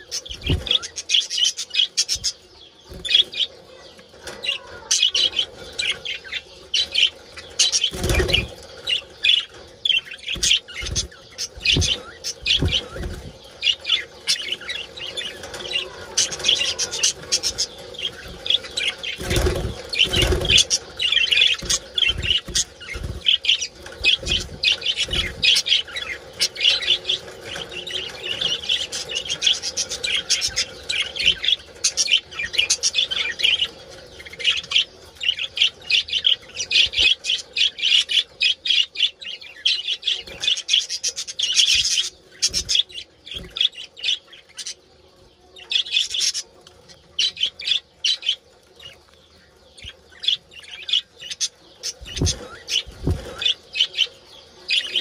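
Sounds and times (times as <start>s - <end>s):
budgerigars chattering: 0.0s - 44.9s, 45.5s - 55.0s.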